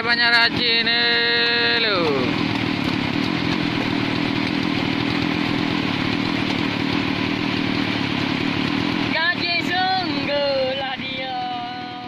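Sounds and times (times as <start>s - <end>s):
chainsaw idling: 0.0s - 12.0s.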